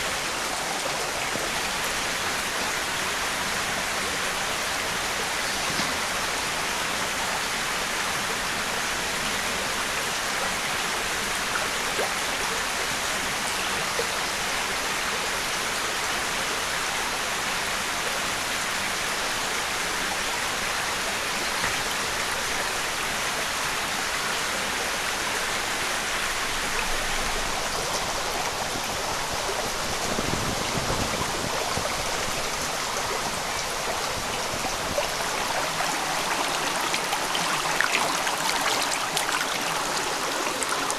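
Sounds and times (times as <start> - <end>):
rushing hissing water: 0.0 - 40.9.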